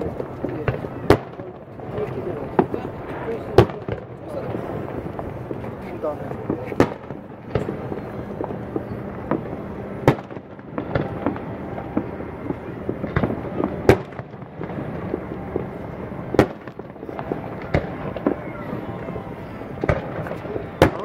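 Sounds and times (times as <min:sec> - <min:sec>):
fireworks popping and cracking: 0:00.0 - 0:21.0
sharp firework bangs: 0:00.0 - 0:21.0.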